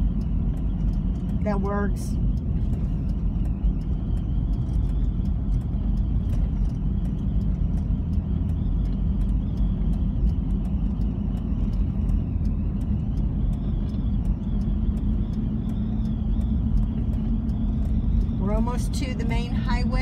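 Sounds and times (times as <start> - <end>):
light regular ticking: 0.0 - 20.0
vehicle engine and tyre rumble: 0.0 - 20.0.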